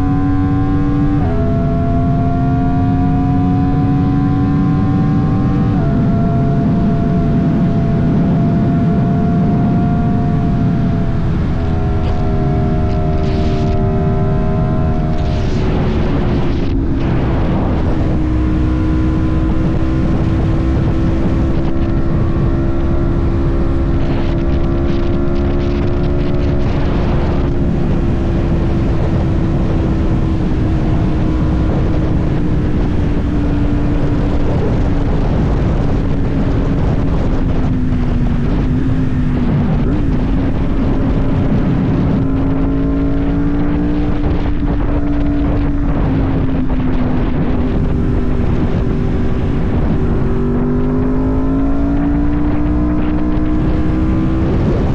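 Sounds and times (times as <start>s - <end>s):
motorcycle engine cruising: 0.0s - 54.9s
wind noise on microphone: 0.0s - 54.9s.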